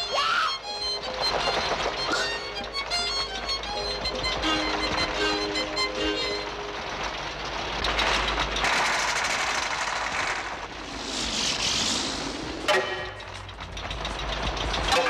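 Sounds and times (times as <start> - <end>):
cartoon bulldozer engine rumble: 0.0 - 15.0.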